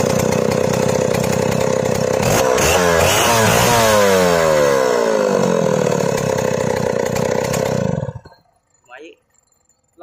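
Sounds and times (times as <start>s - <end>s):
chainsaw engine revving: 0.0s - 8.4s.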